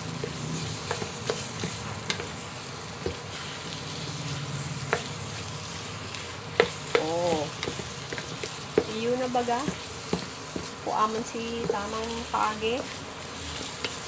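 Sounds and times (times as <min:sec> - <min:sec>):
tofu sizzling in a frying pan: 0:00.0 - 0:14.0.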